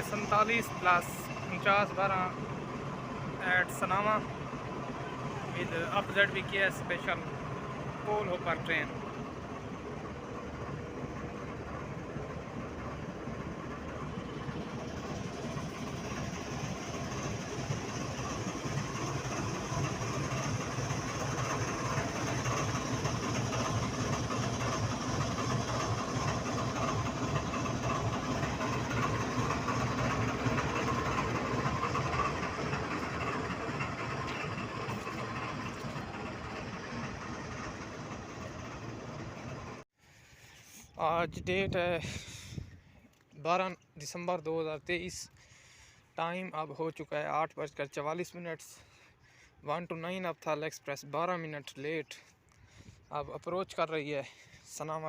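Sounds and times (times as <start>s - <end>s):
diesel locomotive engine running: 0.0s - 42.8s, 43.8s - 50.4s, 51.2s - 55.0s.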